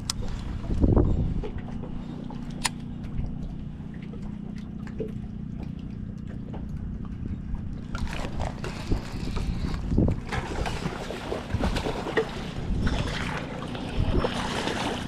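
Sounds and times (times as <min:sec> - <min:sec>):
boat engine low hum: 0:00.0 - 0:15.0.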